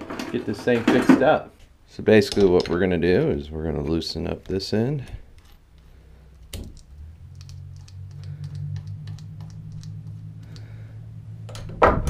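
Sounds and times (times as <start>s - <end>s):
steady low hum: 1.4s - 12.0s.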